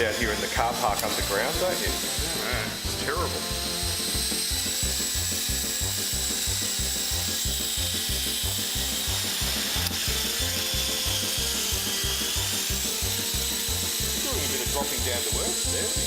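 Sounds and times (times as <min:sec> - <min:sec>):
rc helicopter high whine: 0:00.0 - 0:16.0.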